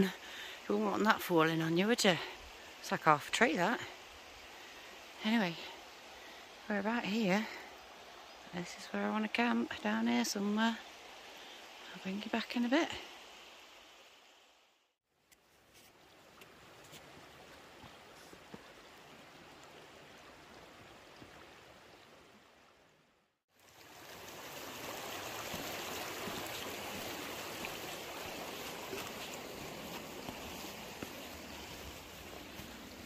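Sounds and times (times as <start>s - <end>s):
river water over stones: 0.0s - 33.0s.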